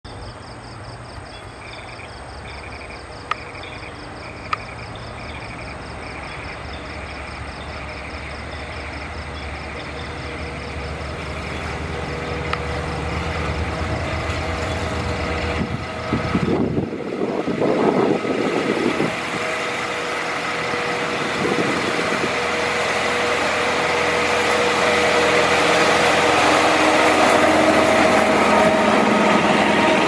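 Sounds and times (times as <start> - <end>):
locomotive engine drone: 0.1 - 30.0.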